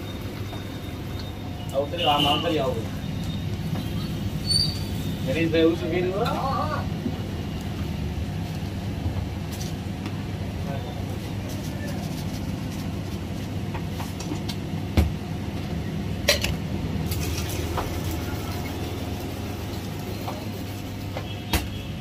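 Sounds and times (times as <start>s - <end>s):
shop machinery hum: 0.0s - 22.0s.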